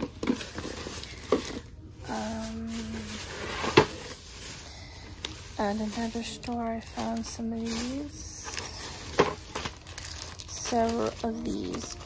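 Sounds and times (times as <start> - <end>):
rustling and handling items: 0.0 - 12.0.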